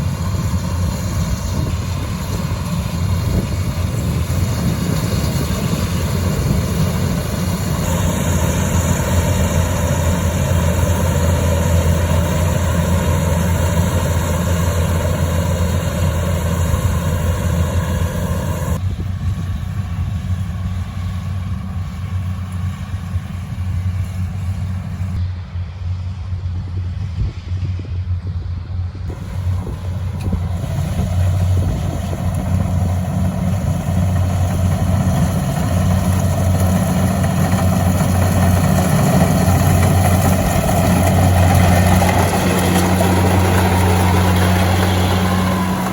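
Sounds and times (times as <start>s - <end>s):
engine humming: 0.0s - 45.9s.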